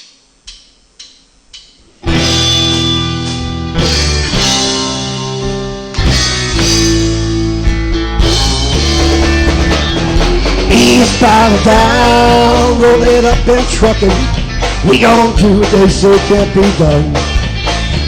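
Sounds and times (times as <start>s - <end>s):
rock band playing: 2.0s - 18.0s.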